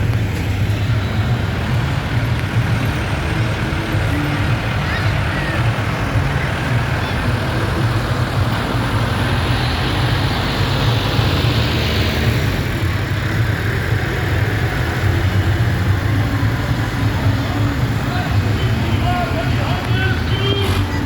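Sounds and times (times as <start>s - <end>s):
tractor engines droning: 0.0s - 21.0s.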